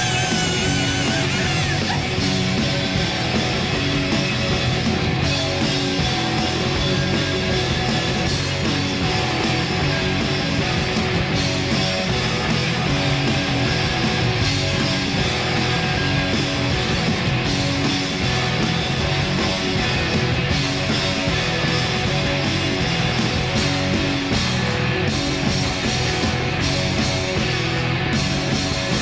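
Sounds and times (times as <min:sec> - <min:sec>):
bass guitar: 0:00.0 - 0:29.0
distorted electric guitars: 0:00.0 - 0:29.0
drums: 0:00.0 - 0:29.0.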